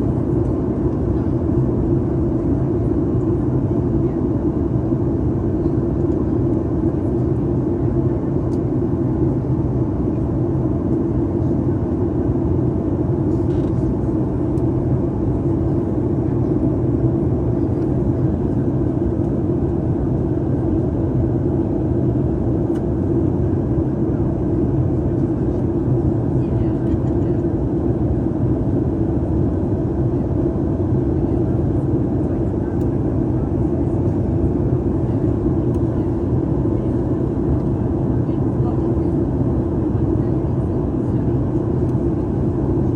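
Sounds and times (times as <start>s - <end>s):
airplane cabin drone: 0.0s - 42.9s.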